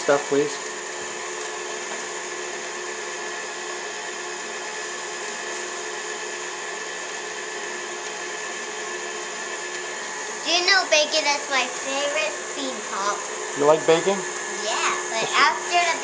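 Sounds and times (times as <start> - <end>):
stand mixer running: 0.0 - 16.0.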